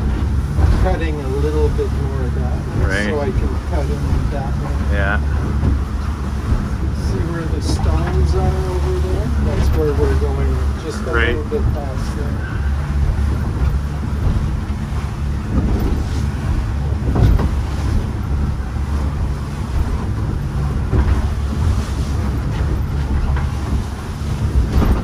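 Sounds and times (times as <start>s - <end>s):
boat engine humming: 0.0s - 25.0s
wind on microphone: 0.0s - 25.0s.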